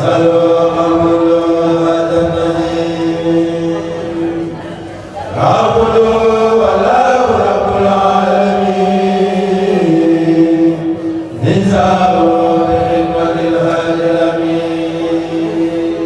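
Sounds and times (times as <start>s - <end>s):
group of voices chanting: 0.0s - 16.0s.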